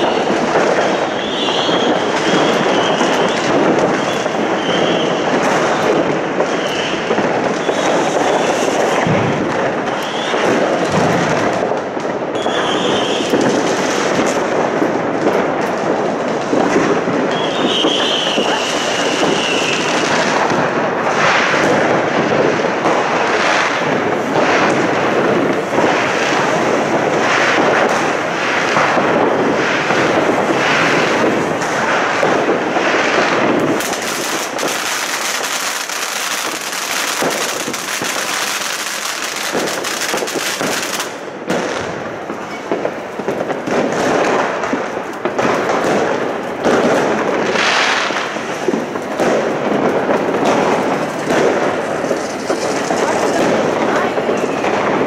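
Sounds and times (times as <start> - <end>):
firecracker pops and crackling: 0.0 - 55.0
firework fountains hissing: 0.0 - 55.0.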